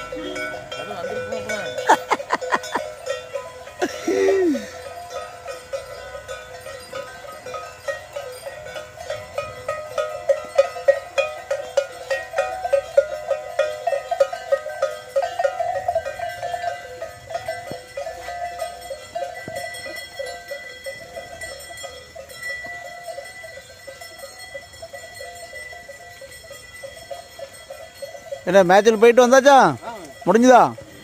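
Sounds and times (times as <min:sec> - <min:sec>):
cattle bells clanking: 0:00.0 - 0:31.0.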